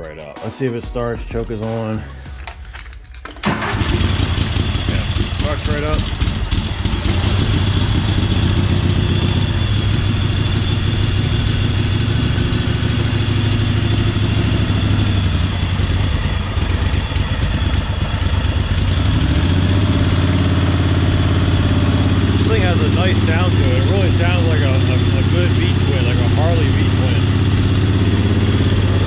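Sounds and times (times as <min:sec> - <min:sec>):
tappy lawn tractor engine running: 0:03.4 - 0:29.0.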